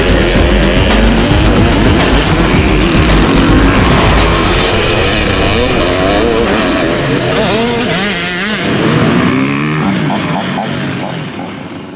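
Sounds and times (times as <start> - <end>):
motorcycle engines revving: 0.0 - 11.9.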